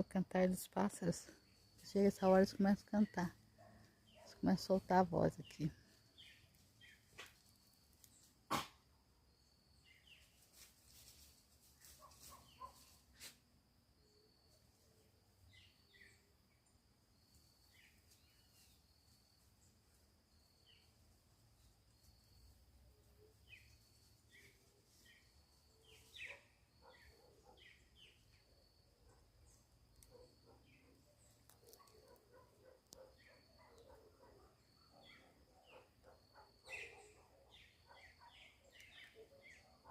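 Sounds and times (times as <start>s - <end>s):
faint birdsong chirps and whistles: 5.2s - 8.4s, 9.2s - 13.3s, 13.9s - 39.9s.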